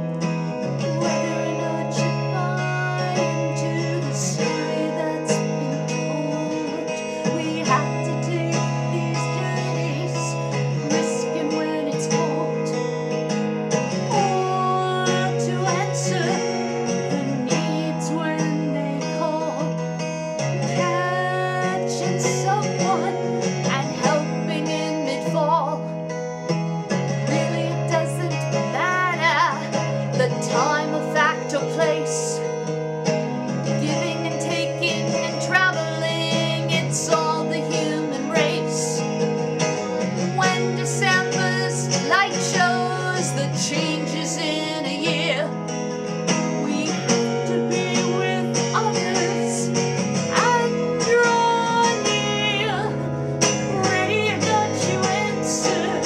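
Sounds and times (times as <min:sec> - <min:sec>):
acoustic guitar strumming: 0:00.0 - 0:56.0
person singing a carol: 0:00.7 - 0:13.0, 0:13.9 - 0:25.9, 0:27.1 - 0:32.6, 0:33.6 - 0:45.7, 0:46.3 - 0:56.0.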